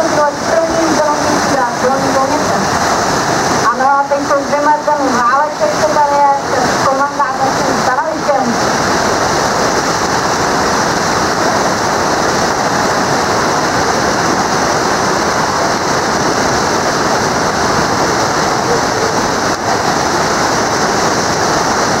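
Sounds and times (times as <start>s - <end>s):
whitewater rapids rushing: 0.0s - 22.0s.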